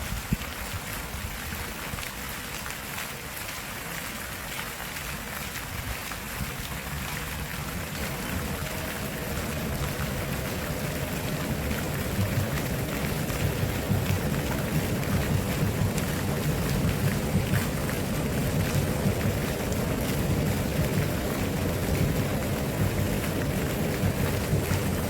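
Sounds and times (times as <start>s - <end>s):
wind rumble on microphone: 0.0s - 2.1s, 5.5s - 25.0s
stream water rushing: 0.0s - 25.0s.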